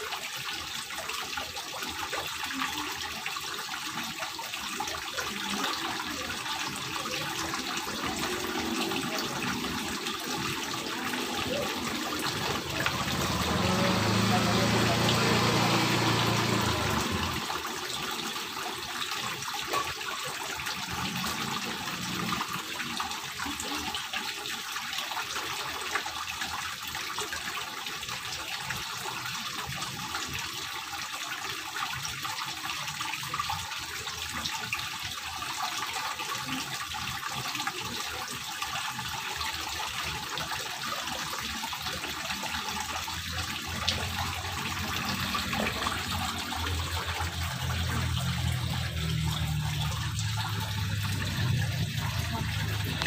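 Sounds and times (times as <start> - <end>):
fountain water splashing into pond: 0.0 - 53.0.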